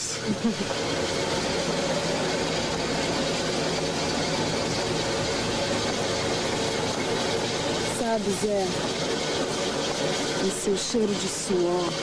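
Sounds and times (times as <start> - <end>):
mechanical drone: 0.0 - 12.0.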